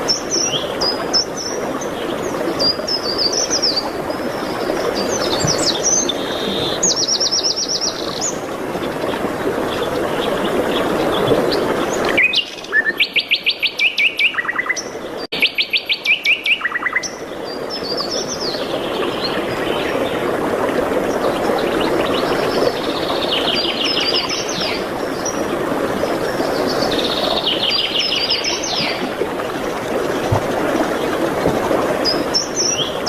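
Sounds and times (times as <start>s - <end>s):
songbirds trilling: 0.0s - 20.2s, 21.1s - 29.1s.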